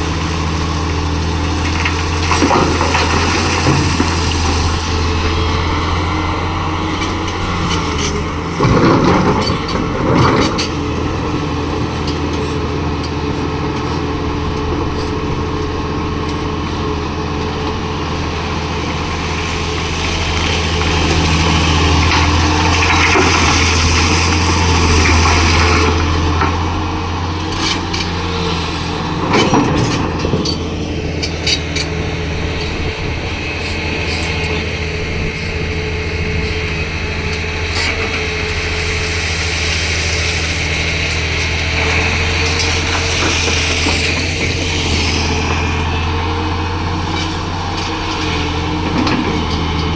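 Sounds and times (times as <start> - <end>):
excavator diesel engine hum: 0.0 - 49.9.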